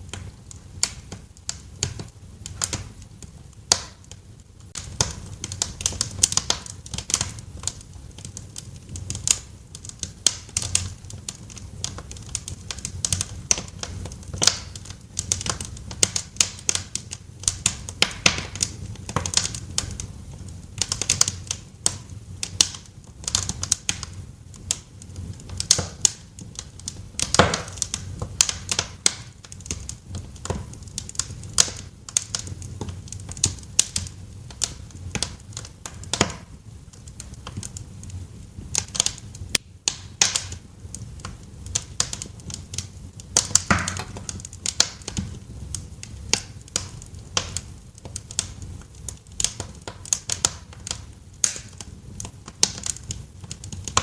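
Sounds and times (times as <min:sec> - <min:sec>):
low rumble of burning fire: 0:00.0 - 0:54.0
wood fire crackling: 0:00.0 - 0:54.0.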